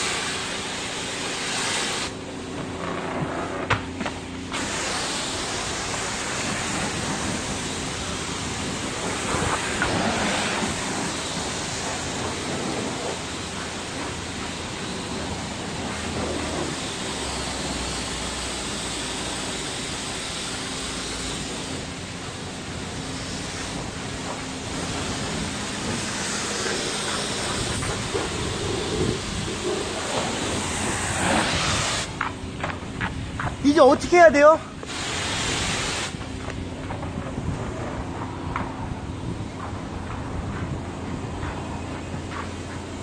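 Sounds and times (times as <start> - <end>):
pressure washer spraying hiss: 0.0 - 36.6.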